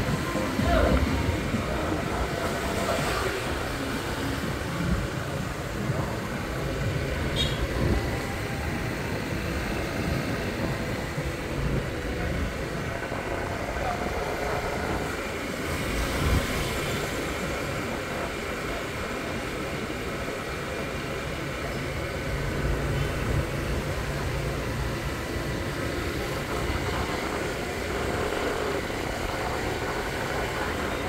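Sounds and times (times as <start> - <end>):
motorbike engine hum: 0.0 - 31.0
wind and road noise: 0.0 - 31.0.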